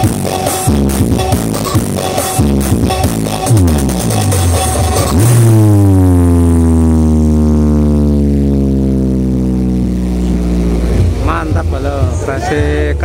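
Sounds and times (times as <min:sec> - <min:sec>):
low buzzing bass tone: 0:00.0 - 0:13.0
sound system playing music: 0:00.0 - 0:13.0.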